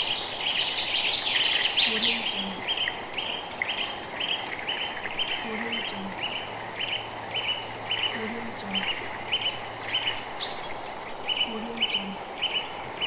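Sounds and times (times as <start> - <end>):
birdsong chirps: 0.0 - 13.0
high insect drone: 0.0 - 13.0.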